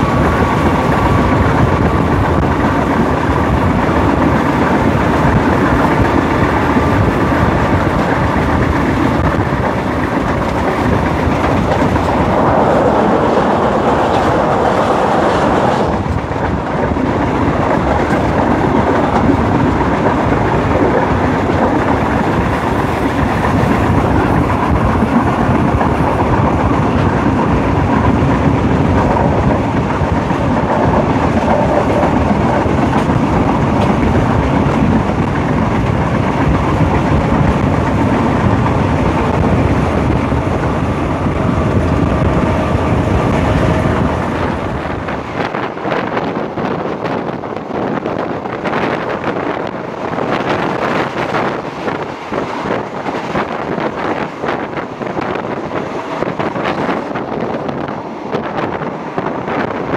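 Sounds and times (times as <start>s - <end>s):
locomotive engine running: 0.0s - 59.9s
wheels clickety-clack on rails: 0.0s - 59.9s.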